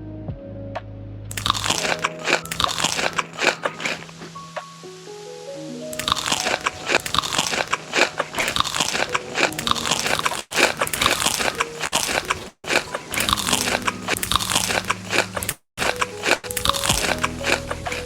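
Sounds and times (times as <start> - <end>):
crunchy food chewing: 1.3 - 4.3, 6.0 - 18.0.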